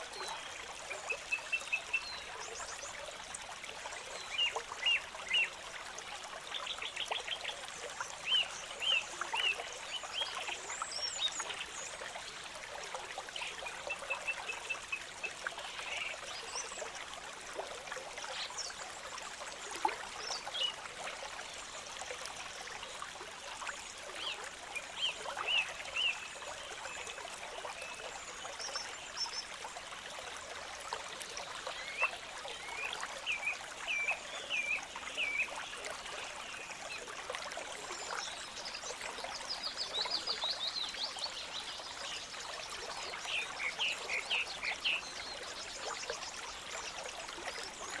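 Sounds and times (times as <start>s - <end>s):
stream trickling and splashing: 0.0s - 48.0s.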